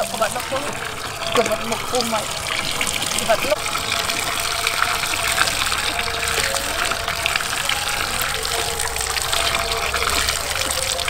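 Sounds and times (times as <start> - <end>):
hands splashing water: 0.0 - 11.0
tap water pouring into basin: 0.0 - 11.0.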